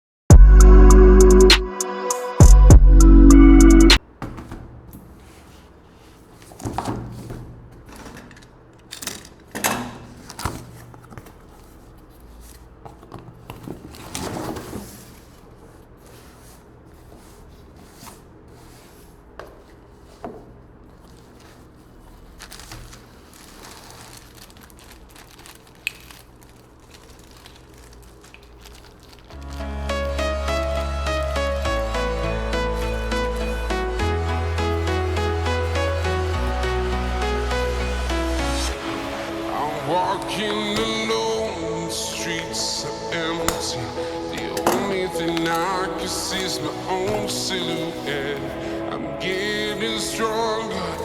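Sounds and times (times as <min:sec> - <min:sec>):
packaging rustling and crinkling: 0:04.0 - 0:51.0.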